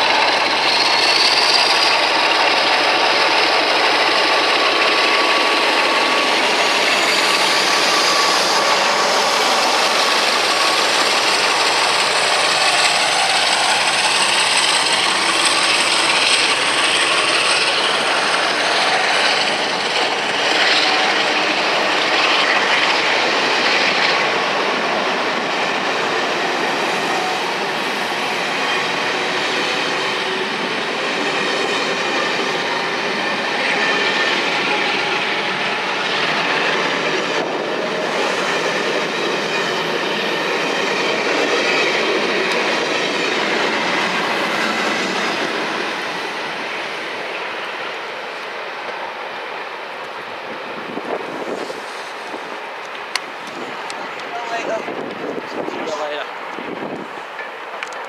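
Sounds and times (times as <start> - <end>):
train coaches rolling past: 0.0 - 58.0.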